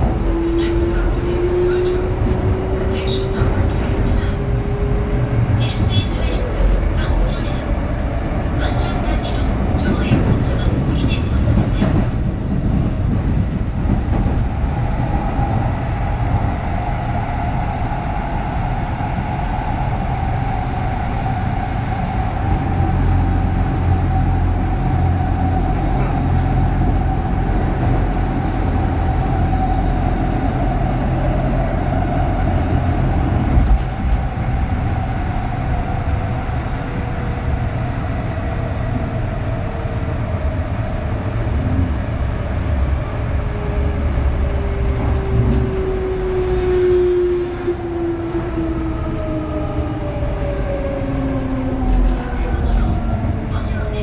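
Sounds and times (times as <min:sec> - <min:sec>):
electric train low rumble: 0:00.0 - 0:54.0.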